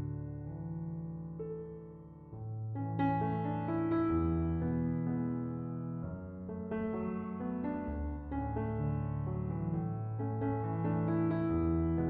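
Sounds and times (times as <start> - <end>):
soft keyboard chords: 0.0 - 12.0.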